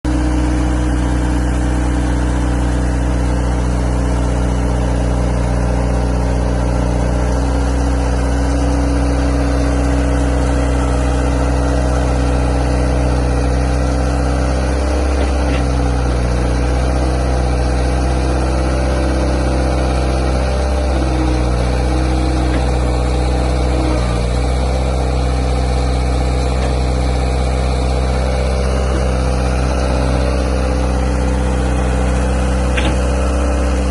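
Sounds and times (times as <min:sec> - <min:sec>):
skid steer engine idling: 0:00.0 - 0:33.9.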